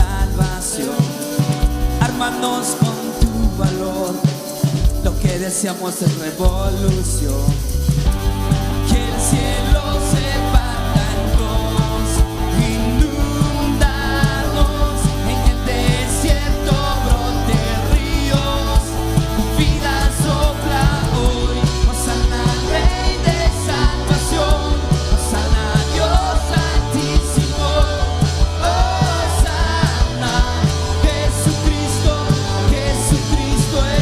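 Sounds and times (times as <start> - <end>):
drums steady beat: 0.0 - 34.0
rock band playing: 0.0 - 34.0.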